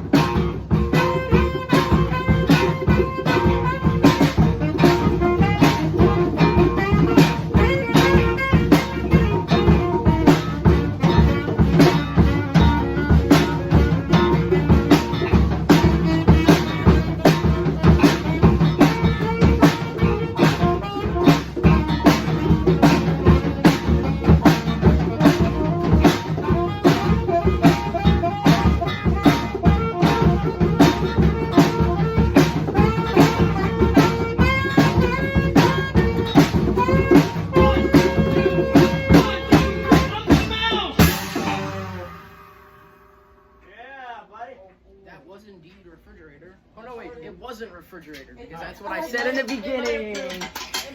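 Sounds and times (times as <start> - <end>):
rock band playing: 0.0 - 43.7
drum kit beat: 0.0 - 44.0, 48.8 - 50.9.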